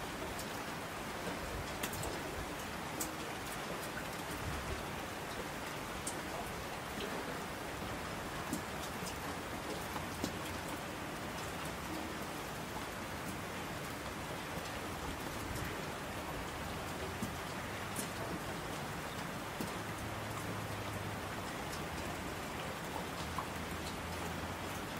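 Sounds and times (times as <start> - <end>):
steady rain hiss: 0.0 - 24.9
raindrops ticking: 0.1 - 24.9.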